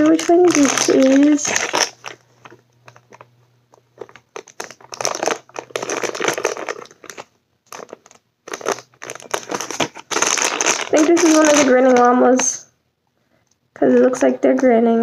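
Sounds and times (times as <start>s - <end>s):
plastic wrapper crinkling: 0.0s - 12.6s.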